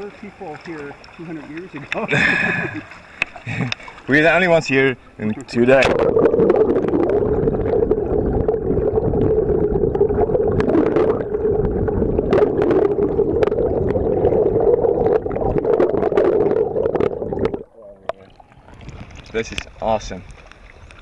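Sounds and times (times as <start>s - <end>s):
underwater rumble and gurgle: 0.0s - 21.0s.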